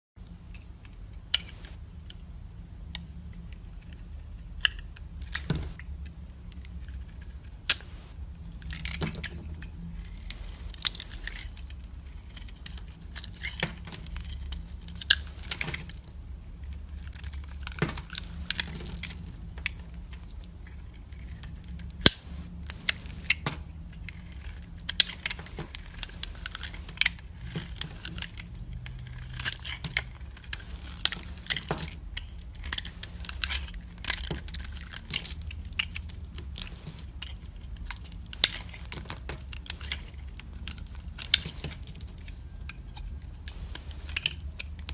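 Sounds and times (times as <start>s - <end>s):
low steady hum: 0.2s - 44.9s.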